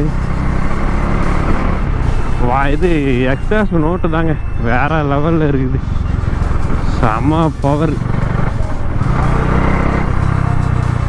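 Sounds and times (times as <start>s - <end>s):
motorcycle engine running: 0.0s - 11.0s
riding noise: 0.0s - 11.0s.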